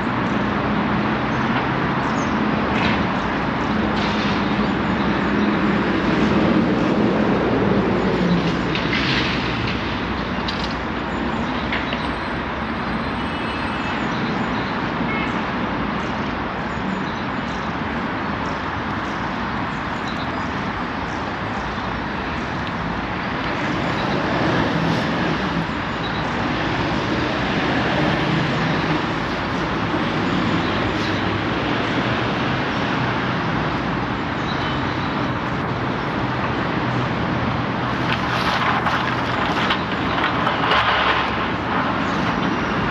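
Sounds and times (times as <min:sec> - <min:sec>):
vehicle noise rumble: 0:00.0 - 0:42.9.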